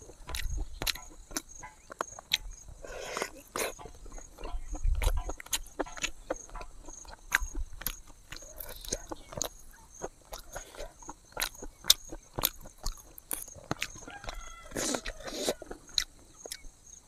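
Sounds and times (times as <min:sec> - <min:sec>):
chewing and lip smacks: 0:00.0 - 0:16.8
insects chirping: 0:00.0 - 0:17.0.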